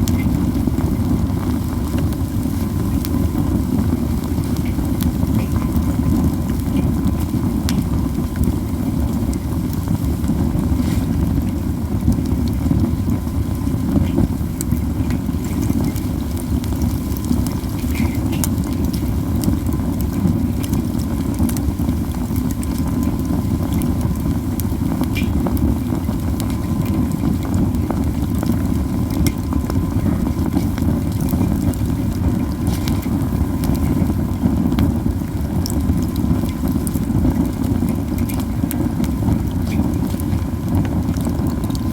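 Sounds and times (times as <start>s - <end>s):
fire crackling and popping: 0.0s - 41.9s
low roar of flames: 0.0s - 41.9s.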